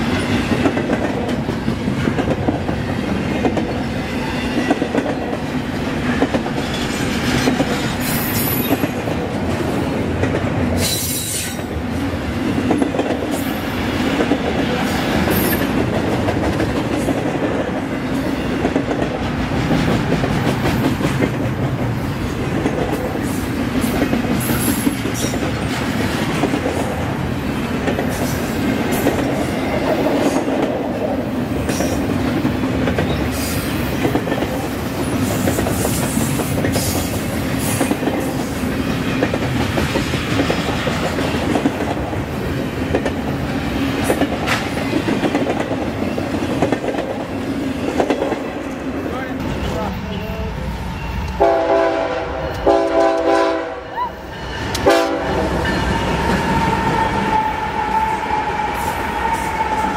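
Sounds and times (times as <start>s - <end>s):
railcars rumbling: 0.0s - 59.9s.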